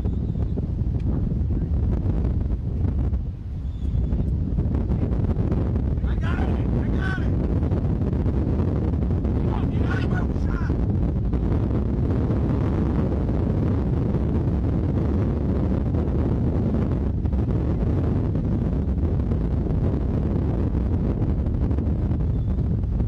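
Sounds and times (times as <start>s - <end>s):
wind roaring on microphone: 0.0s - 23.0s.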